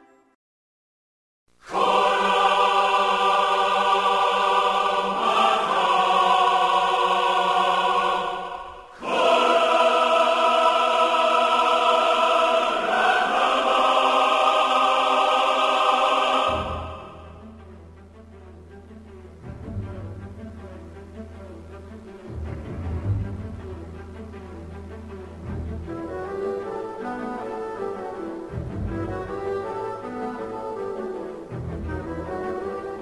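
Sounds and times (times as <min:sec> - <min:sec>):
slow choral chords: 0:01.6 - 0:33.0.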